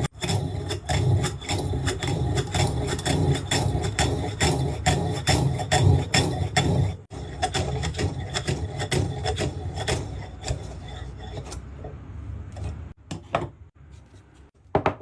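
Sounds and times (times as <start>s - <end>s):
scraping on wood: 0.0s - 12.9s.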